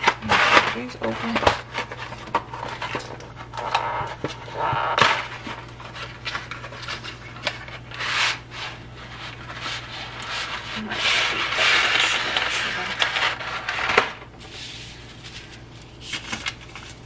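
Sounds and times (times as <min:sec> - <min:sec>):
pasta scraping and rubbing in pot: 0:00.0 - 0:17.0
steady low hum: 0:00.0 - 0:17.0.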